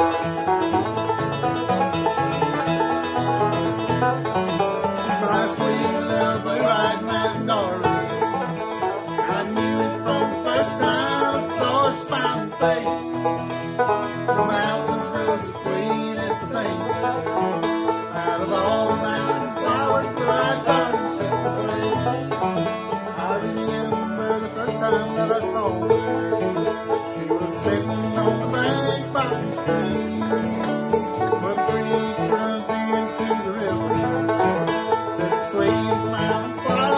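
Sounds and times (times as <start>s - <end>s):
acoustic guitar: 0.0s - 36.9s
banjo: 0.0s - 36.9s.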